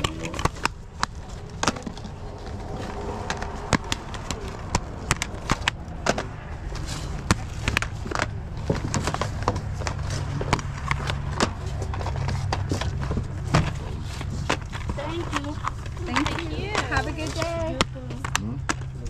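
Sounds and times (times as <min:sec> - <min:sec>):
plastic cases clacking and snapping: 0:00.0 - 0:19.0
steady low rumble: 0:00.0 - 0:19.0.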